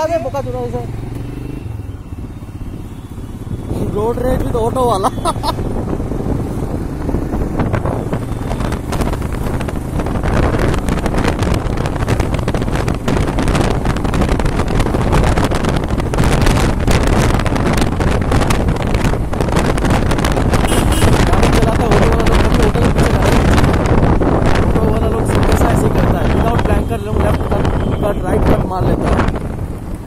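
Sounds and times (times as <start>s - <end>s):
motorcycle engine running: 0.0s - 28.0s
road noise: 0.0s - 30.0s
wind buffeting microphone: 1.6s - 30.0s.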